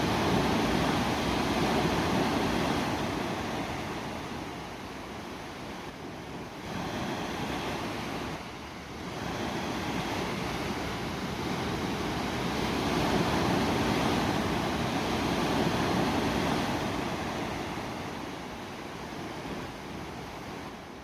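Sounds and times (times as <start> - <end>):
ocean waves washing onto shore: 0.0 - 21.0.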